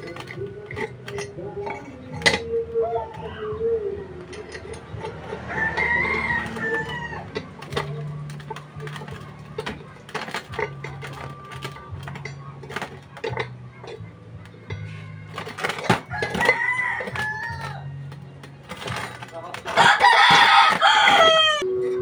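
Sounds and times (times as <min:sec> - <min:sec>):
steel pipes clinking and knocking: 0:00.0 - 0:22.0.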